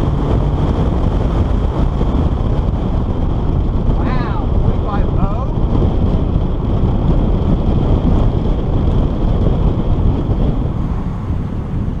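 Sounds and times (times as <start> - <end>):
car engine and road rumble: 0.0 - 12.0
wind buffeting microphone: 0.0 - 12.0.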